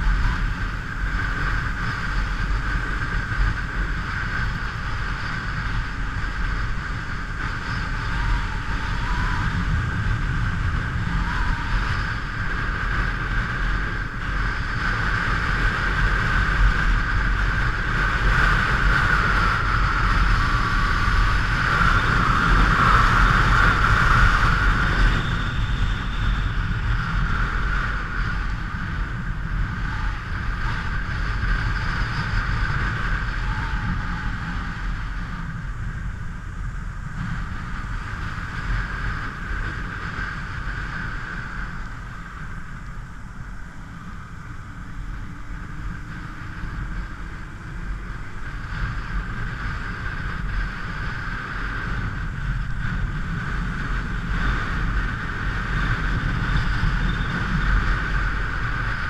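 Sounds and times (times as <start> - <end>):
motorcycle engine rumble: 0.0 - 59.0.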